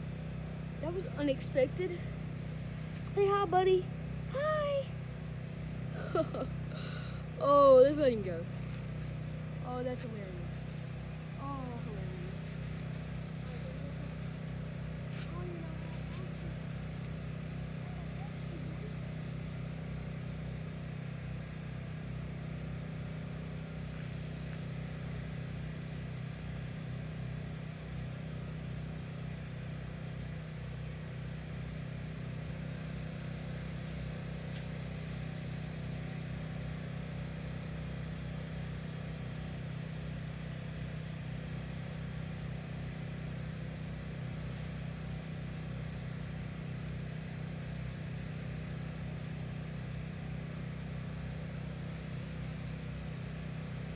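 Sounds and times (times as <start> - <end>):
low motor hum: 0.0 - 53.9.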